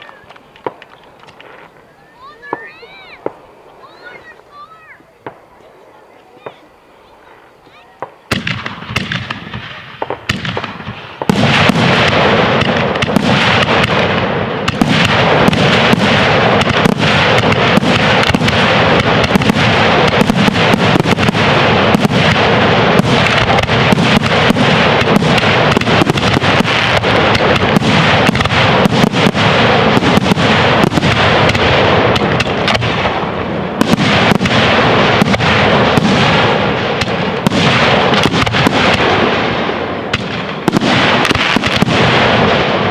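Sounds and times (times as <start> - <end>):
fireworks bursts and crackling: 0.0 - 42.9.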